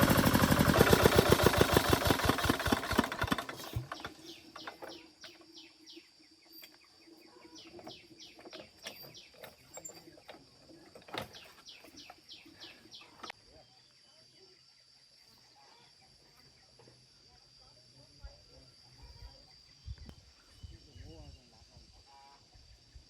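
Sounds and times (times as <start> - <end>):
faint bird chirping: 3.6 - 23.0.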